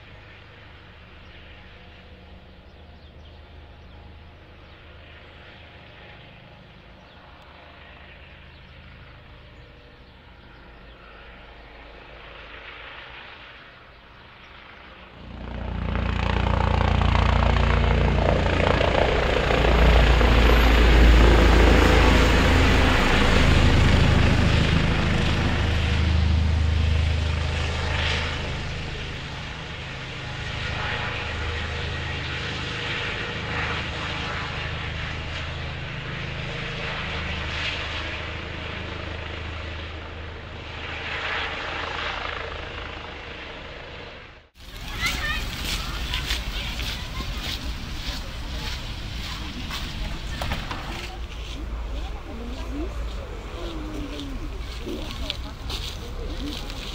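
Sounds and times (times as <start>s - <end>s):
helicopter rotor beating: 0.0s - 56.9s.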